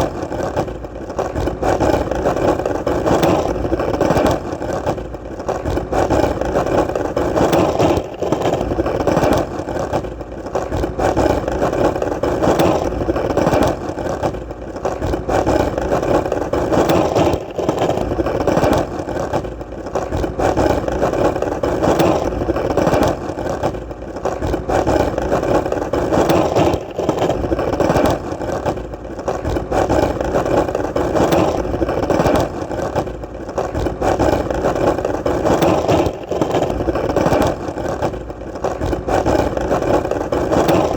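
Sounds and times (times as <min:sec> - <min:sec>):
skateboard wheels rolling: 0:00.0 - 0:40.9.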